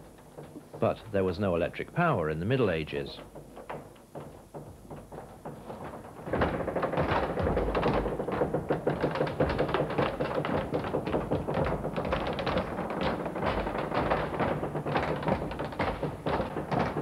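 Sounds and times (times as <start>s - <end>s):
wooden crane clicking and knocking: 0.0s - 17.0s.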